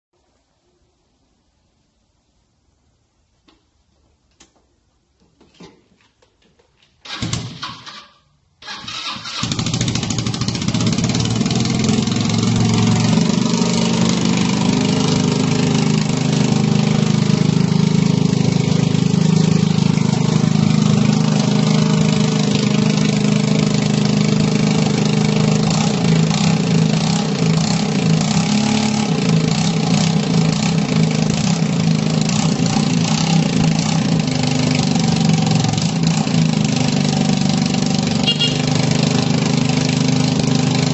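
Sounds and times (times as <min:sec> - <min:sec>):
motorcycle engine starting and idling: 0:05.5 - 0:40.9.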